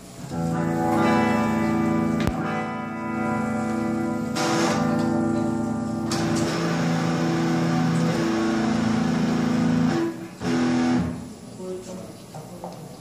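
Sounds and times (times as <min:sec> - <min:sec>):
amplified guitar chords: 0:00.3 - 0:11.4.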